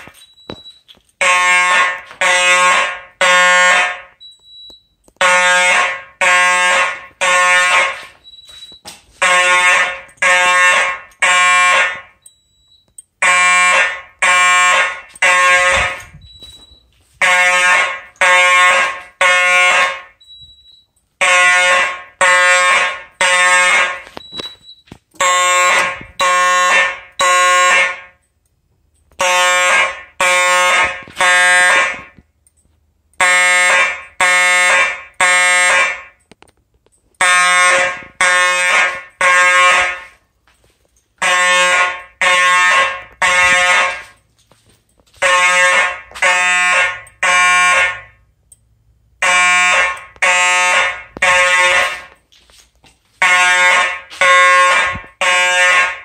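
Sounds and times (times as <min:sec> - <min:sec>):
fire alarm horn blasts: 0:00.0 - 0:28.2, 0:29.1 - 0:32.3, 0:33.2 - 0:36.3, 0:37.2 - 0:40.3, 0:41.2 - 0:44.2, 0:45.1 - 0:48.3, 0:49.2 - 0:52.2, 0:53.2 - 0:56.0.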